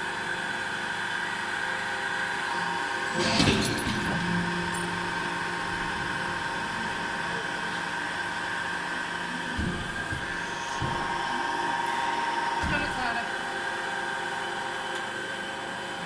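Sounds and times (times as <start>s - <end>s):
hydraulic press whine and hum: 0.0s - 16.0s.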